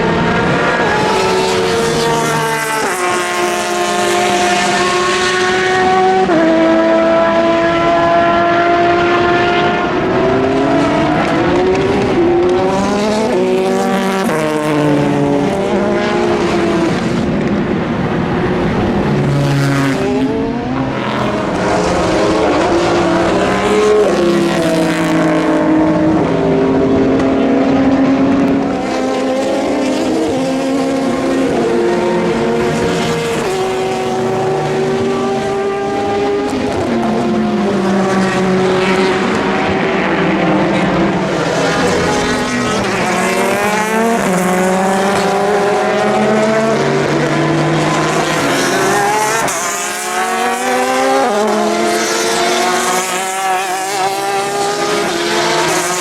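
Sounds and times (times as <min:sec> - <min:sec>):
racing cars passing at speed: 0:00.0 - 0:56.0.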